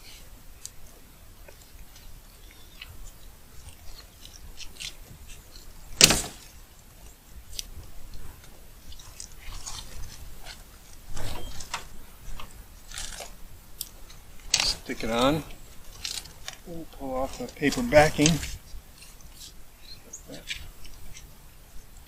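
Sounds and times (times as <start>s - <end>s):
tape crackling and clicking: 1.4s - 19.6s
tape rustling: 1.5s - 21.3s.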